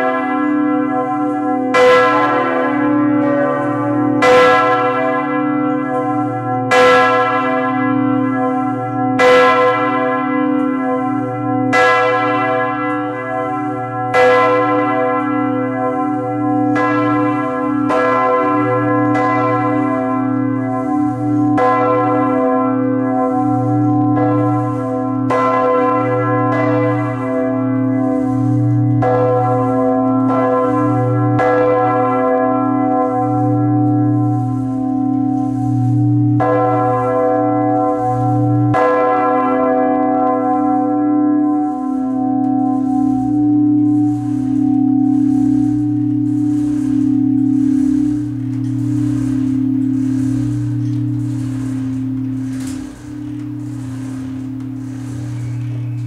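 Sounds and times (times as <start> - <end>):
church bells pealing: 0.0 - 56.0.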